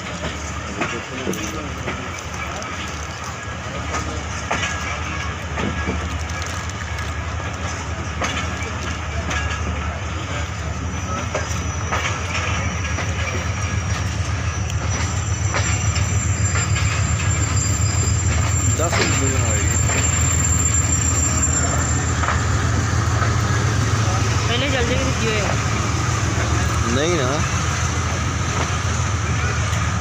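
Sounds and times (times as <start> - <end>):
train rumbling on track: 0.0 - 30.0
wheels clacking over rail joints: 0.0 - 30.0.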